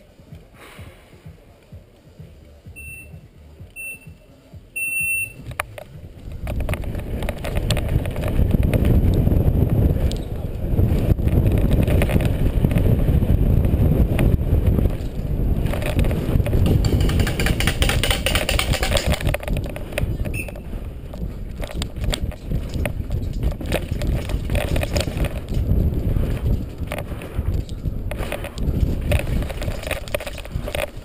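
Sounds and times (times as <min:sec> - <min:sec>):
tyres on dirt: 0:00.0 - 0:31.0
wind rumble on microphone: 0:00.0 - 0:31.0
bike rattles and knocks: 0:01.5 - 0:31.0.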